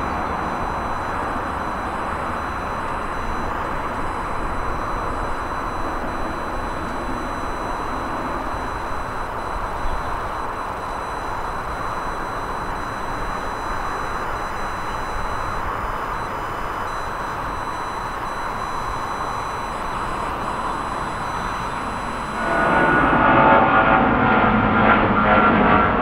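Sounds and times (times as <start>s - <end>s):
airliner jet engines: 0.0s - 26.0s
close jet with buzzing fan: 0.0s - 26.0s
faint high whines: 0.0s - 26.0s.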